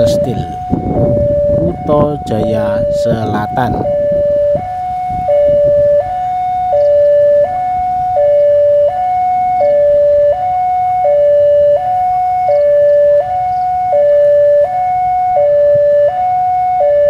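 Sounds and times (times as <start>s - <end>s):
two-tone level-crossing alarm: 0.0s - 17.0s.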